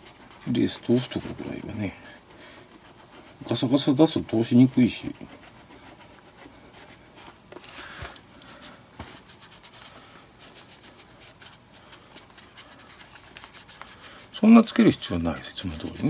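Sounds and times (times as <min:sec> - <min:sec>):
hand rubbing leather glove: 0:00.0 - 0:16.0.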